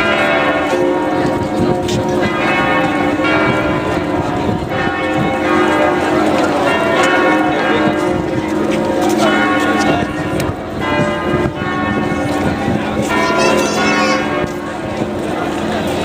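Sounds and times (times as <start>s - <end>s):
church bells ringing a peal: 0.0s - 16.0s.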